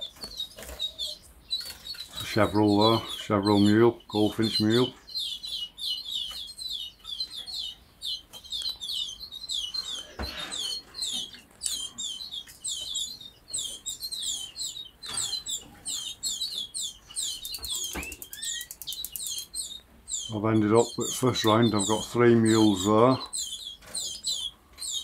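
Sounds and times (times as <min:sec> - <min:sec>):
bird trill: 0:00.0 - 0:25.0
birds chirping: 0:00.0 - 0:25.0.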